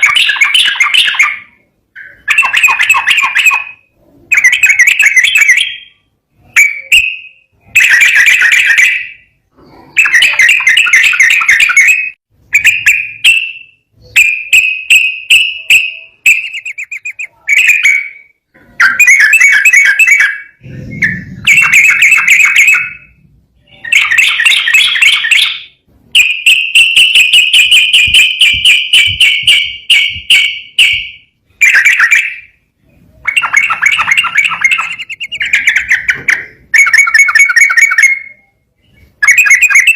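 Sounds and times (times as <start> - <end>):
bulbul singing chattering trills: 0.0 - 39.9.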